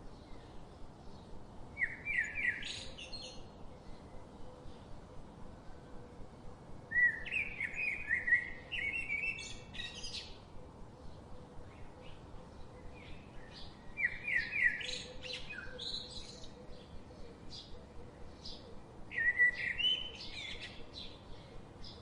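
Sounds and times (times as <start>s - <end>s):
faint background hiss: 0.0s - 22.0s
songbird singing: 0.0s - 22.0s.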